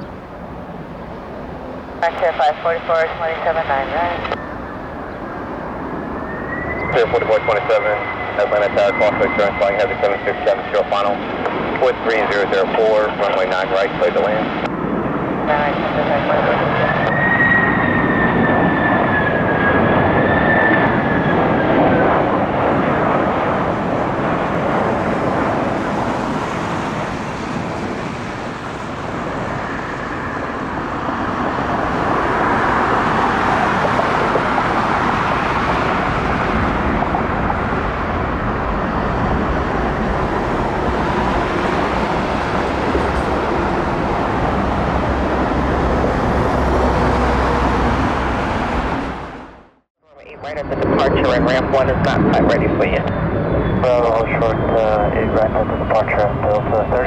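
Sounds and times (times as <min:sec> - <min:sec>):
jet engines whine and rush: 0:00.0 - 0:57.0.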